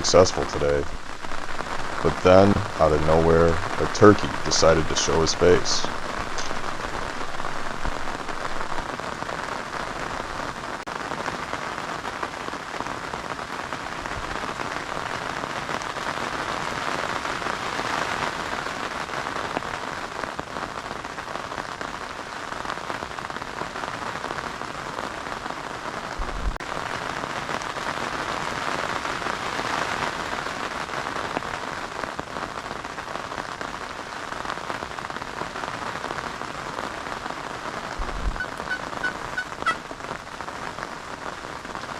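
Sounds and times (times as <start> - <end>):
heavy rain pattering: 0.0 - 41.9.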